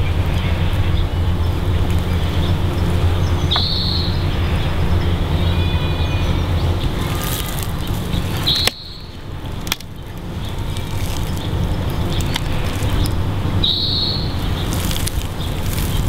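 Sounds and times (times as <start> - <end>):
low rumble: 0.0 - 16.0
wooden bars squeaking: 0.0 - 16.0.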